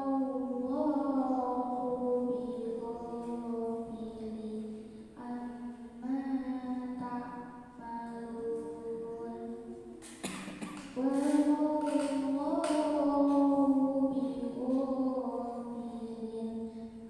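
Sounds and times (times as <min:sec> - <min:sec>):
girl reciting melodically: 0:00.0 - 0:17.0.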